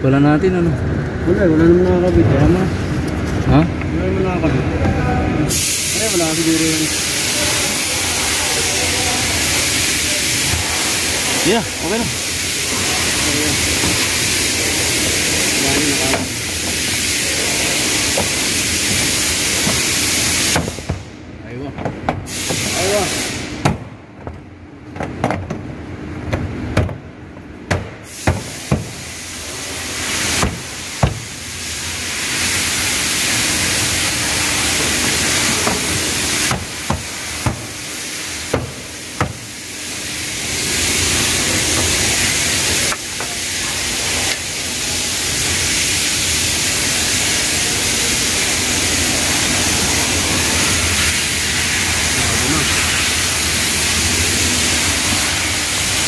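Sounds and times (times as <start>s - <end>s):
steady loud hiss: 0.0s - 24.3s, 25.0s - 56.0s.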